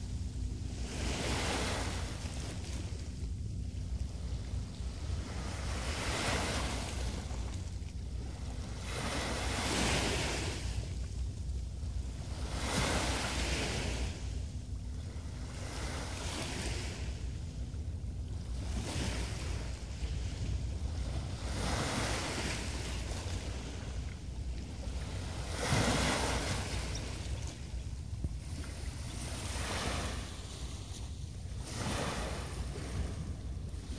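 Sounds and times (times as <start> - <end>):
small waves breaking on shore: 0.0 - 33.9
wind rumble on microphone: 0.0 - 33.9.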